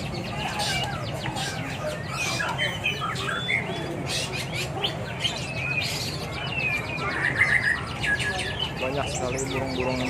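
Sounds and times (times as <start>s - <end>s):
songbirds chirping and whistling: 0.0s - 10.0s.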